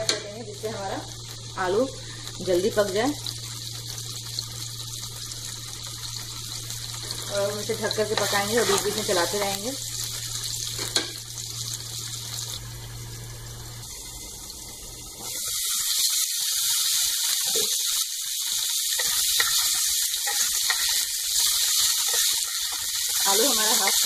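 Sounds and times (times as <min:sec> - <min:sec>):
potatoes sizzling in hot oil: 0:00.0 - 0:24.0.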